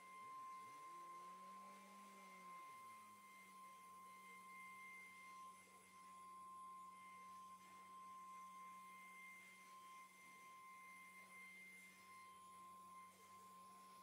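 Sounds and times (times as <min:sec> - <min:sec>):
router spindle high whine: 0:00.0 - 0:14.0.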